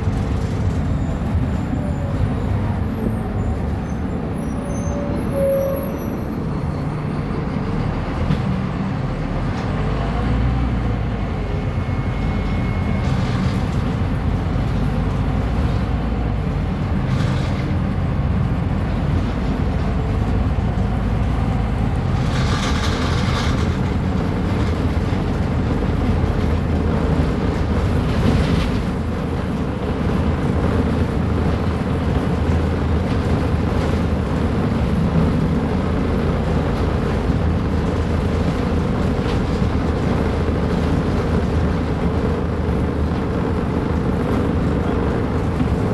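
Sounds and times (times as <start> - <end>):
diesel bus engine rumbling: 0.0 - 45.9.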